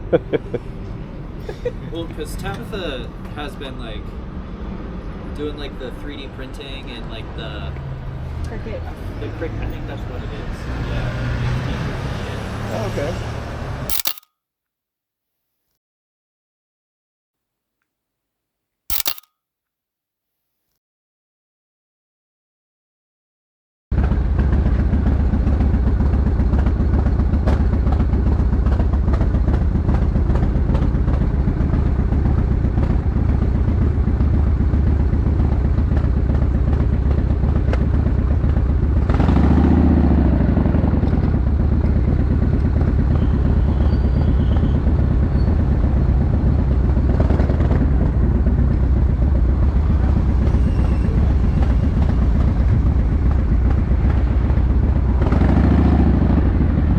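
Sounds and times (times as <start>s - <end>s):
truck engine and road rumble: 0.0s - 13.9s, 24.0s - 56.9s.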